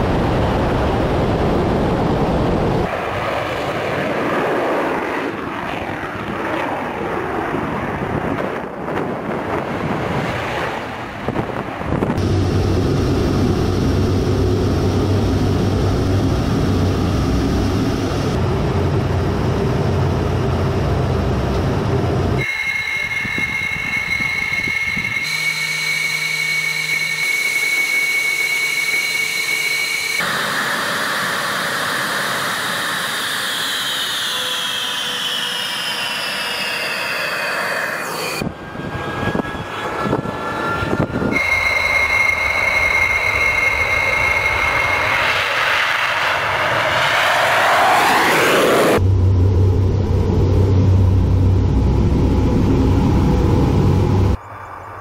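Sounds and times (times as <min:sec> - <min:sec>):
jet engines rumbling and whining: 0:00.0 - 0:55.0.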